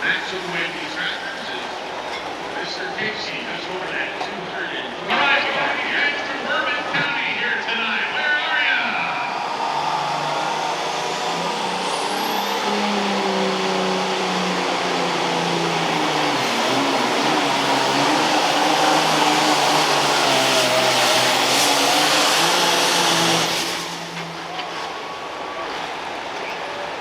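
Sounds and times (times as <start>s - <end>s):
diesel tractor engine at full throttle: 0.0s - 27.0s.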